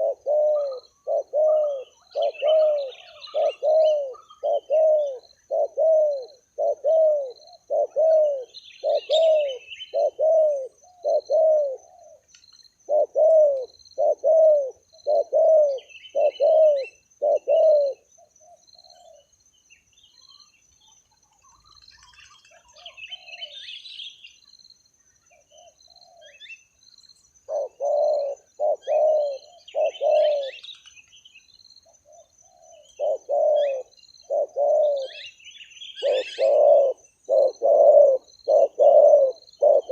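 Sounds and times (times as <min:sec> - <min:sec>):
dove cooing: 0:00.0 - 0:12.2, 0:12.9 - 0:19.3, 0:21.6 - 0:23.6, 0:25.4 - 0:26.5, 0:27.5 - 0:30.8, 0:31.9 - 0:39.9
small birds chirping: 0:00.0 - 0:39.9.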